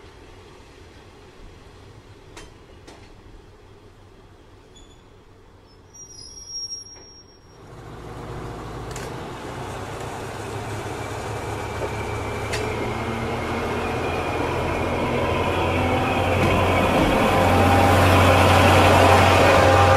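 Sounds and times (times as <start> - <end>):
diesel railcar engine drone: 0.0 - 19.9.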